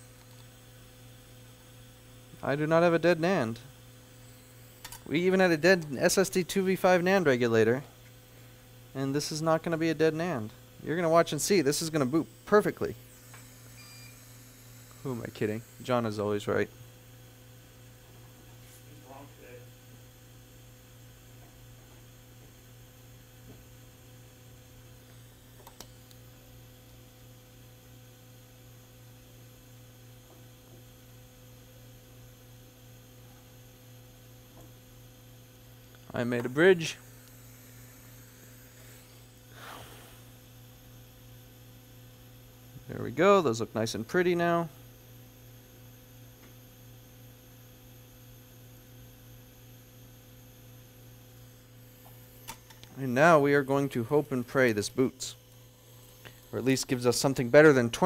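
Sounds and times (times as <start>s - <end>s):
low electrical mains hum: 0.0s - 58.0s.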